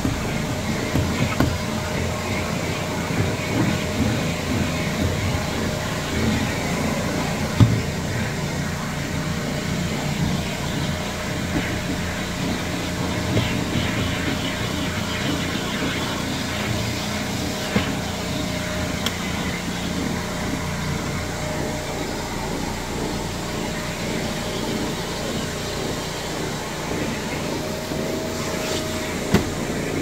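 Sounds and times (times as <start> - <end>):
rotary floor machine drone: 0.0 - 30.0.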